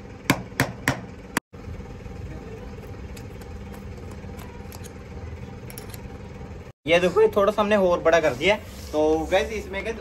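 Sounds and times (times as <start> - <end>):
engine-like hum: 0.0 - 10.0.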